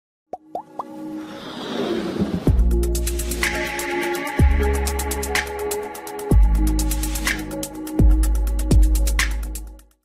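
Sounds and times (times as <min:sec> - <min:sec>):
synth music: 0:00.4 - 0:09.8.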